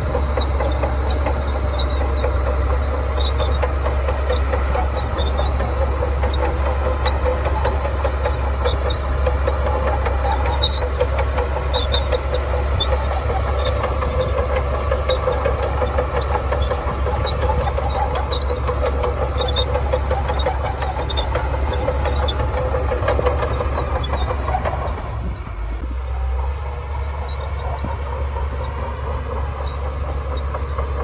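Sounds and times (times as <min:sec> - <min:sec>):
bulldozer diesel engine rumbling: 0:00.0 - 0:31.0.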